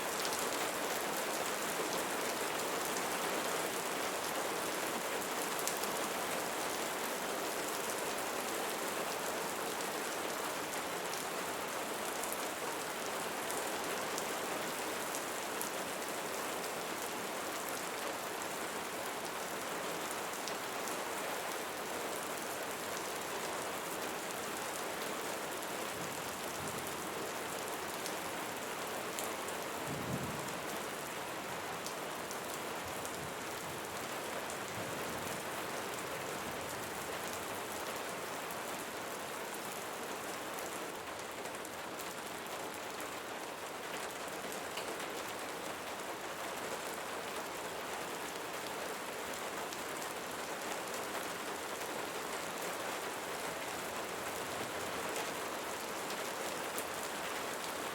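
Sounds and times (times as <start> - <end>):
steady rainfall hiss: 0.0 - 57.9.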